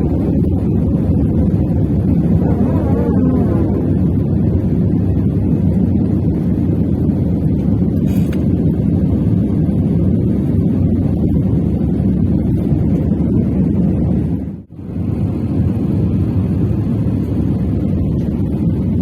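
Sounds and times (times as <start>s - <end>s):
plane engines rumbling in cabin: 0.0s - 19.0s.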